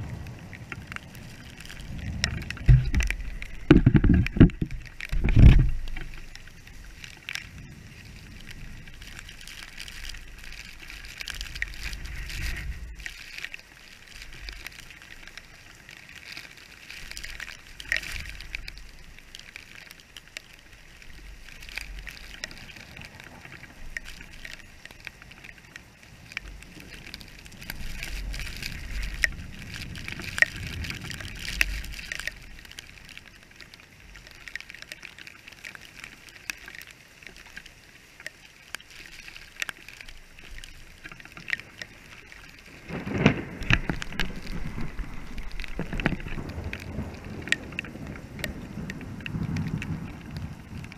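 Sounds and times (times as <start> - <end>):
drops ticking nearby: 0.0 - 50.9
heavy rain on pavement: 0.0 - 50.9.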